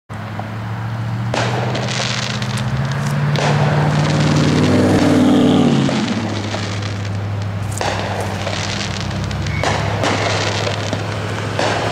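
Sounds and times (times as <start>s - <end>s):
low drone: 0.6s - 11.9s
fireworks bursting with crackle: 1.1s - 11.9s.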